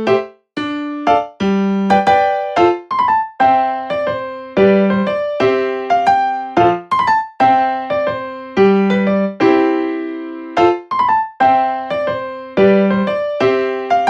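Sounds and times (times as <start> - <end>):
light keyboard tune: 0.0 - 14.0.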